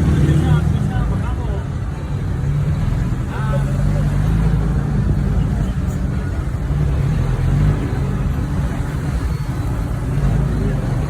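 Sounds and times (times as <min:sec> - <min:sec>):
road vehicle engine rumble: 0:00.0 - 0:11.0.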